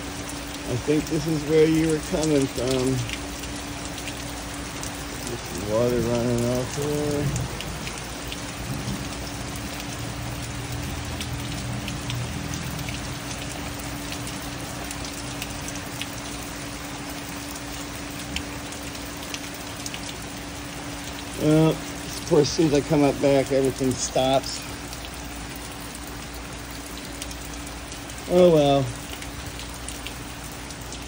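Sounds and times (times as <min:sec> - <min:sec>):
close water drips: 0:00.0 - 0:31.0
rain falling on patio and pool: 0:00.0 - 0:31.0
steady low hum: 0:00.0 - 0:31.0.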